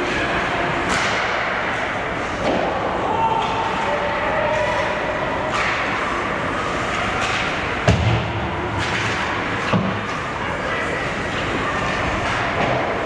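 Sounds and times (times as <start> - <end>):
arena noise: 0.0 - 13.0
puck banging against rink boards: 0.8 - 10.3, 11.5 - 13.0.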